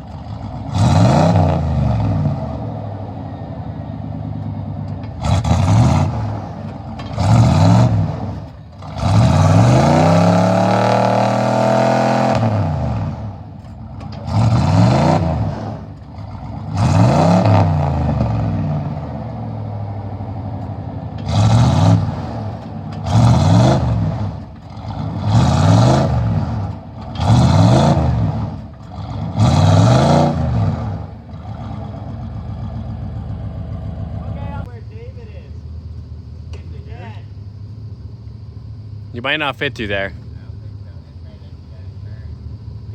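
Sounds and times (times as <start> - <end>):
off-road truck engine revving: 0.0 - 42.9.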